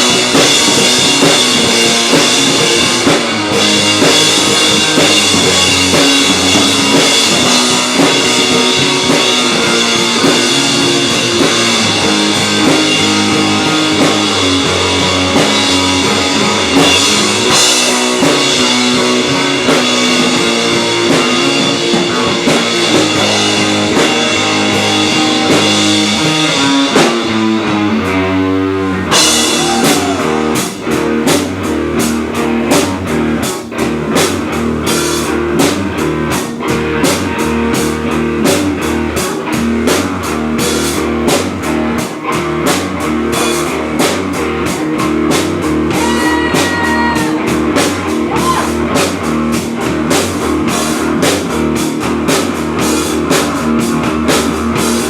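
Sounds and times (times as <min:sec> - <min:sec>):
driving drum beat: 0:00.0 - 0:55.0
wavering electric guitar: 0:00.0 - 0:55.0.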